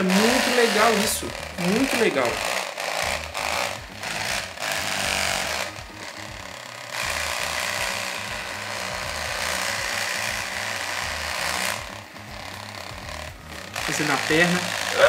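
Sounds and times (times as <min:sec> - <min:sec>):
massage gun buzzing and hammering: 0:00.0 - 0:15.0.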